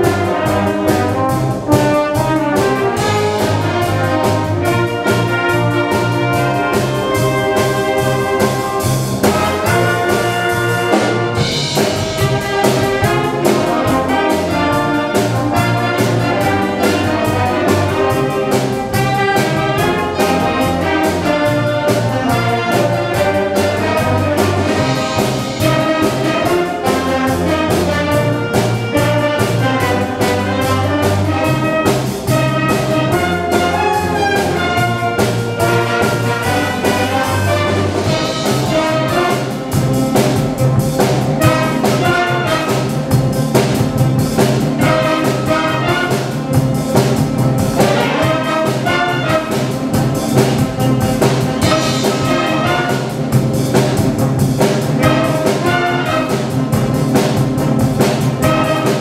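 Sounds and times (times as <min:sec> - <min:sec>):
wind band playing pop song: 0:00.0 - 0:59.0.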